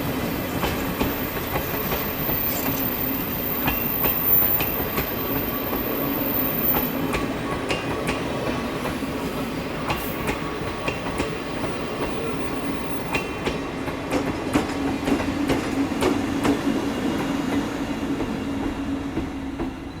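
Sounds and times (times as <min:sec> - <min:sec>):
train hum: 0:00.0 - 0:20.0
train wheels clicking over rail joints: 0:00.5 - 0:20.0.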